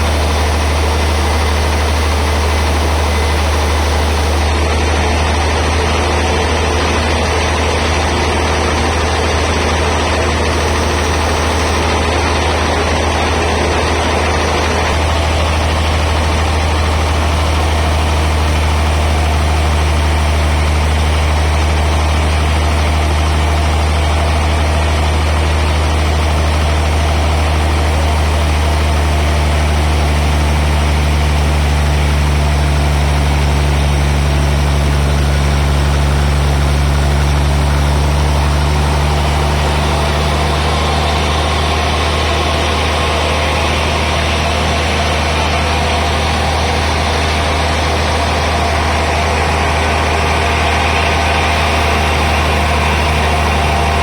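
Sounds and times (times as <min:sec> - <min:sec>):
deep machine drone: 0:00.0 - 0:54.0.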